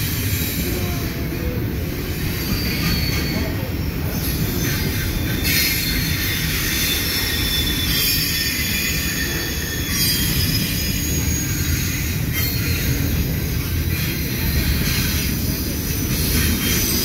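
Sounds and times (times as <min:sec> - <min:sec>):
freight train wheels rumbling: 0:00.0 - 0:17.0
wheels squealing: 0:02.1 - 0:17.0.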